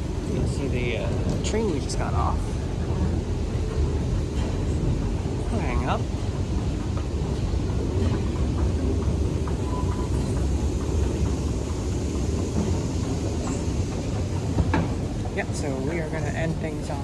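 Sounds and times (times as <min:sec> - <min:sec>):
subway station rumble: 0:00.0 - 0:17.0.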